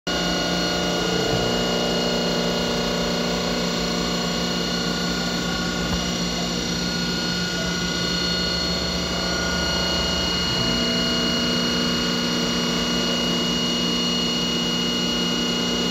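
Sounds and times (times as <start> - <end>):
milling machine whine: 0.1 - 15.9.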